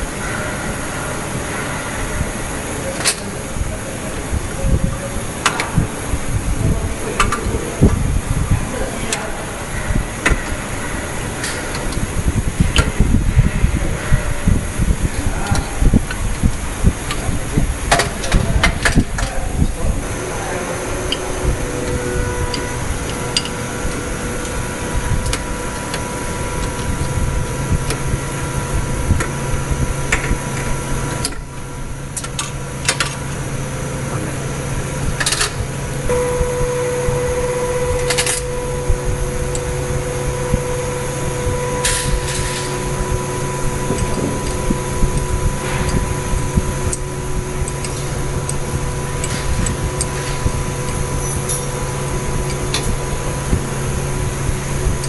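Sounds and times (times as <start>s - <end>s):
machinery hum with constant tones: 0.0s - 55.0s.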